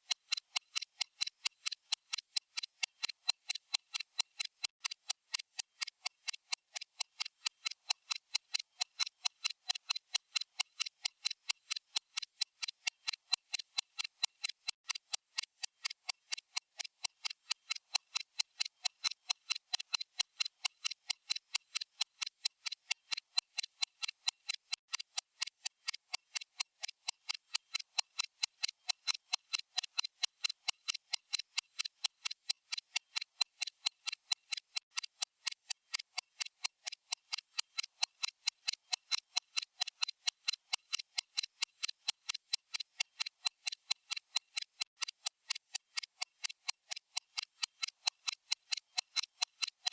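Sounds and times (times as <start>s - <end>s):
stopwatch ticking: 0.0s - 49.9s.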